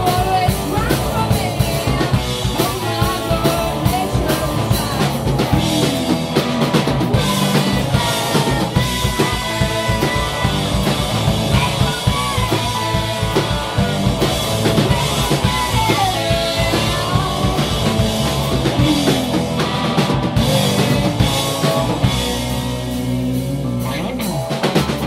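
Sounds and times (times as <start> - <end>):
hard rock band playing: 0.0 - 25.0.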